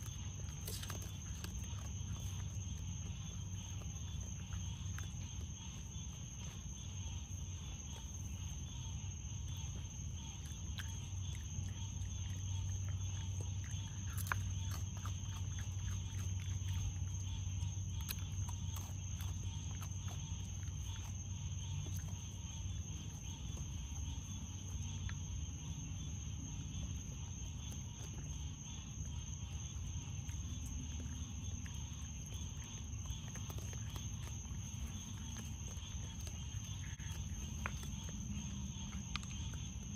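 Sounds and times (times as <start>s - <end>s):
night insects chirring: 0.0s - 39.9s
raccoon crunching kibble: 0.0s - 39.9s.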